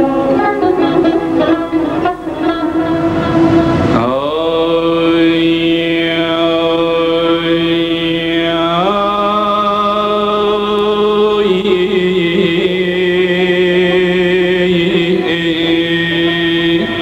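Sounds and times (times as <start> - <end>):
man singing long wavering notes: 2.0 - 17.0.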